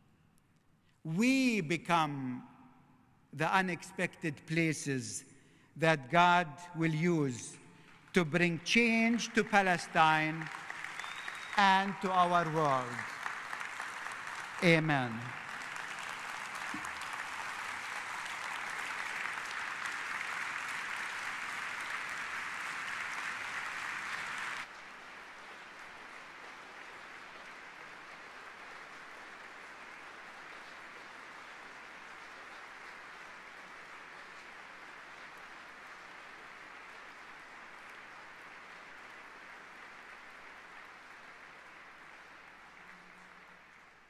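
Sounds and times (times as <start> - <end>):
large audience applauding: 7.8 - 44.0.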